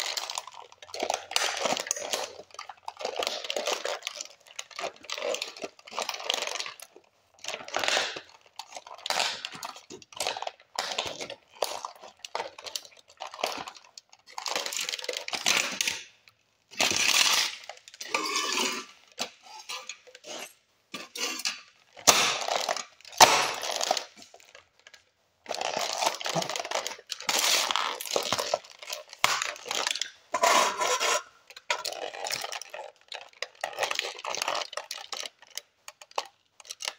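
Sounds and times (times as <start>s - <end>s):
toy cars crunching underfoot: 0.0s - 36.9s.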